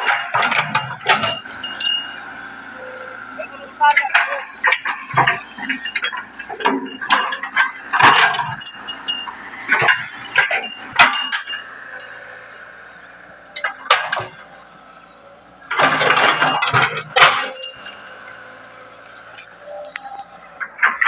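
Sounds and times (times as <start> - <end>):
excavator running: 0.0 - 21.0
metal clanks and knocks: 0.0 - 21.0.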